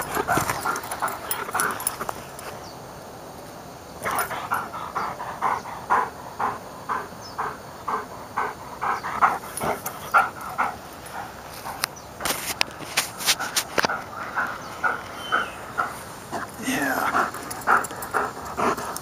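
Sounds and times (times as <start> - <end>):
dog panting rhythmically: 0.0 - 2.1, 4.0 - 11.9, 13.4 - 19.0.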